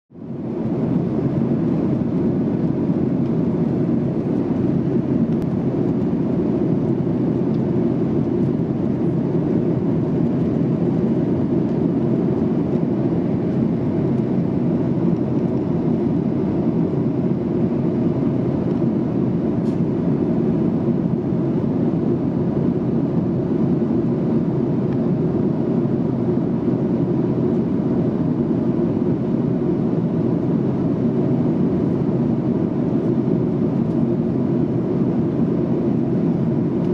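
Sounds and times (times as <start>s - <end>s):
airplane cabin airflow and engine drone: 0.1s - 36.9s.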